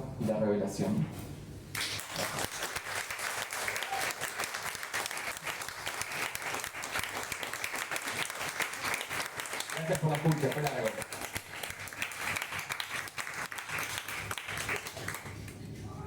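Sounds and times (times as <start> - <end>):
audience applauding: 1.8 - 15.6.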